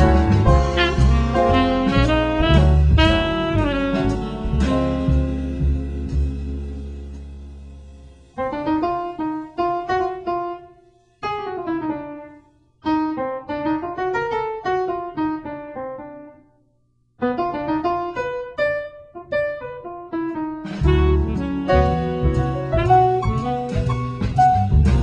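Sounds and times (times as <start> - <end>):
jazz piano: 0.0 - 16.6, 17.2 - 25.0.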